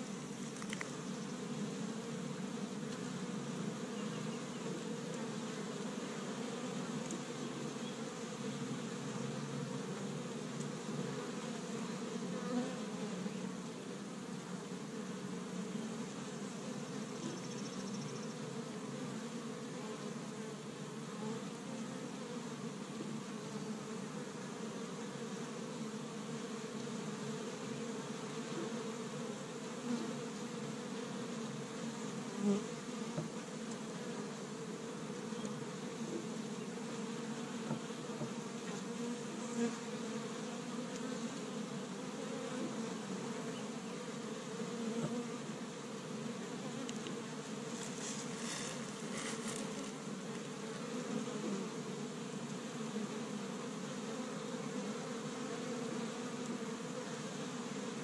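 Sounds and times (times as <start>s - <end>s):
honey bees buzzing: 0.0s - 58.0s.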